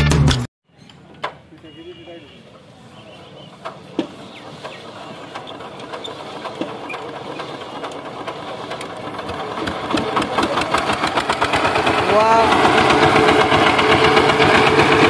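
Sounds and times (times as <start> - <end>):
diesel engine being hand-cranked: 2.6 - 15.0.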